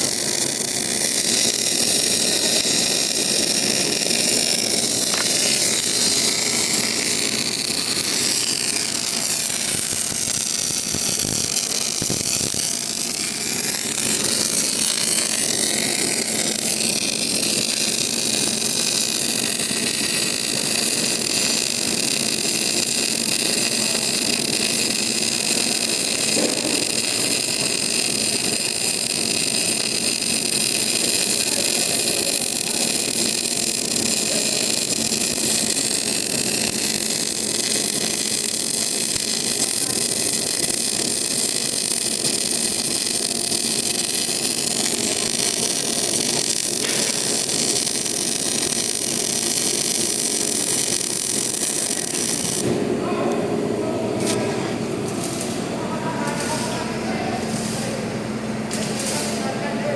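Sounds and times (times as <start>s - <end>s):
machine whirring with hiss: 0.0s - 59.9s.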